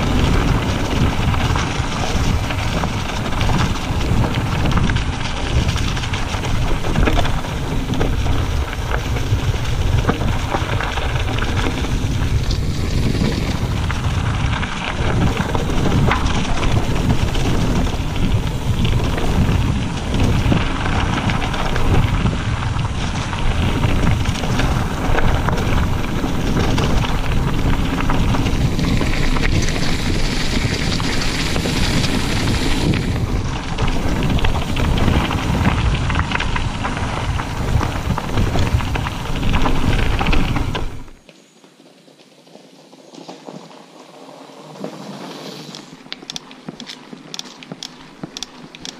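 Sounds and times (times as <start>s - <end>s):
wind buffeting microphone: 0.0s - 41.2s
bike knocking and rattling: 0.0s - 41.5s, 43.1s - 48.9s
bike tyres on gravel: 0.0s - 48.9s.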